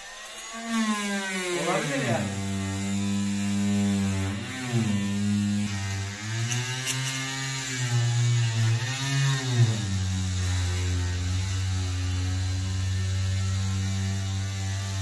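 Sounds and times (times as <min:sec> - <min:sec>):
power tool motor running: 0:00.0 - 0:15.0.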